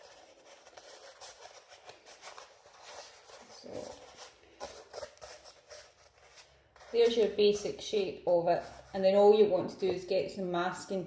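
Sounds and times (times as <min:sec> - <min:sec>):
faint rustling and crinkling: 0:00.0 - 0:11.0.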